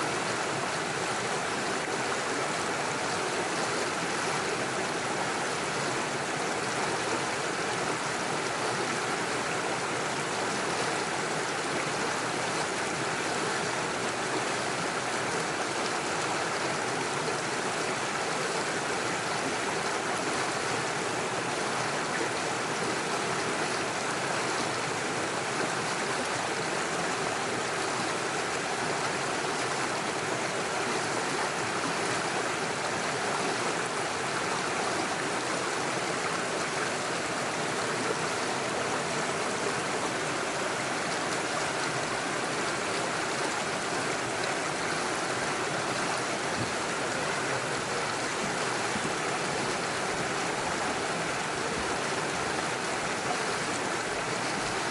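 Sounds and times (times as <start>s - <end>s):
stream running over stones: 0.0s - 54.9s.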